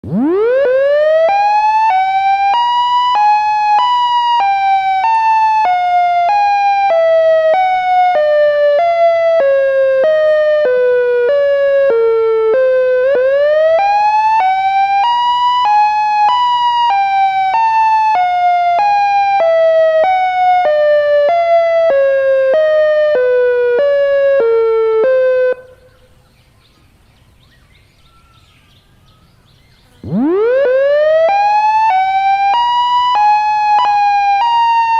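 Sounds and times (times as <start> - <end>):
synthesized siren alternating wail: 0.0 - 26.2, 29.9 - 34.9.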